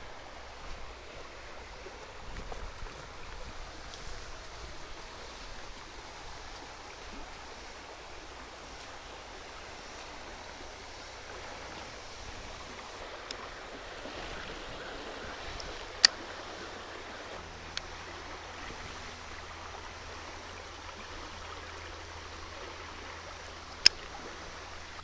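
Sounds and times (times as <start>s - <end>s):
water running over rocks: 0.0s - 25.0s.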